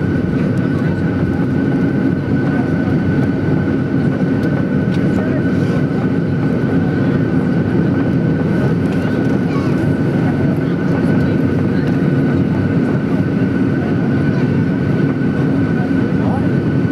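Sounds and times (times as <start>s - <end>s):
aircraft cabin engine rumble: 0.0s - 16.9s.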